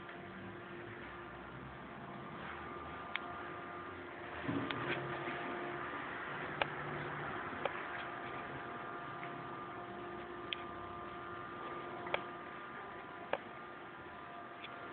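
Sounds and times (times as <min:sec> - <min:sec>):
machine hum with held tones: 0:00.0 - 0:14.9.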